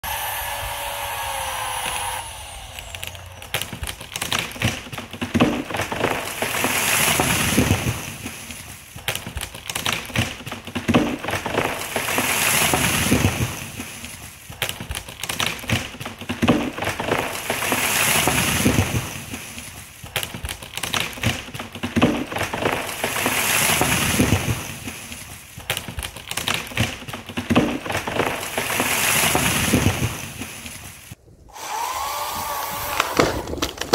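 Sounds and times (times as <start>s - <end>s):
tree limb cracking and splitting: 0.1s - 33.9s.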